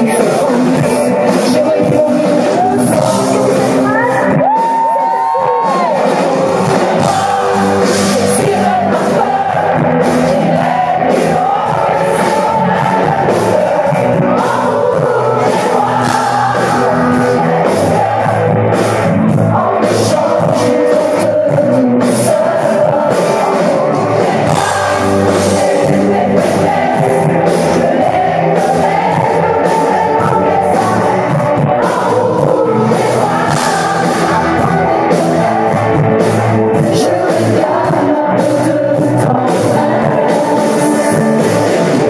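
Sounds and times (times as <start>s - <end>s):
woman singing: 0.0s - 18.5s, 19.5s - 42.0s
live pop-rock band: 0.0s - 42.0s.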